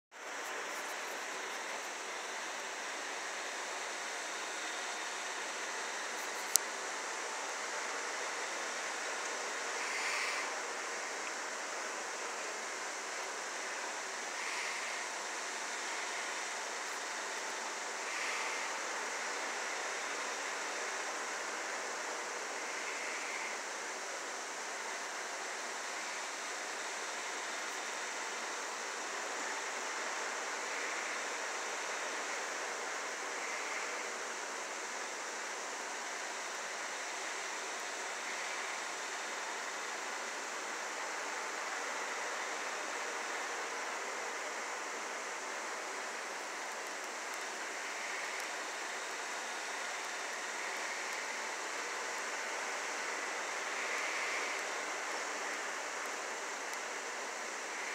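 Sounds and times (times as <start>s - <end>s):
steady film hiss: 0.1s - 57.9s.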